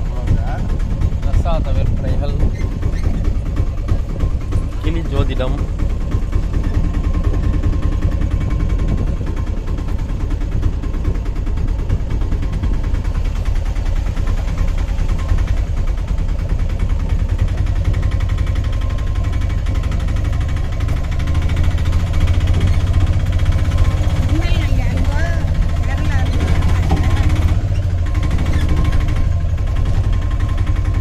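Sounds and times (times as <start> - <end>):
auto-rickshaw engine running: 0.0 - 31.0.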